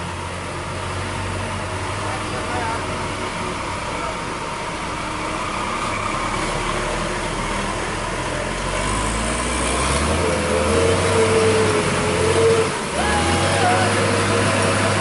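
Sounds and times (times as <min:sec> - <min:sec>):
heavy truck engine labouring: 0:00.0 - 0:15.0.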